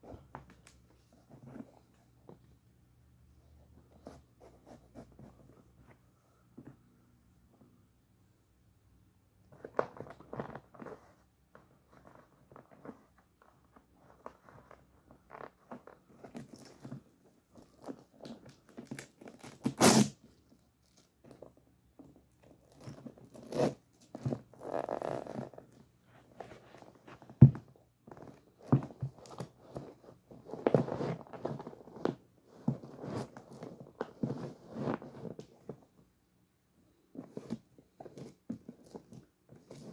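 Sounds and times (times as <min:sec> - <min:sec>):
laces rustling and scraping: 0:00.0 - 0:02.7, 0:03.3 - 0:07.8, 0:09.4 - 0:36.2, 0:36.9 - 0:39.9.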